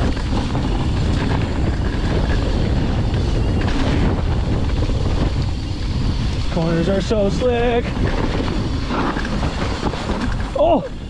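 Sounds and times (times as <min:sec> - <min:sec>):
tyre rumble on dirt trail: 0:00.0 - 0:10.9
wind over microphone: 0:00.0 - 0:11.0.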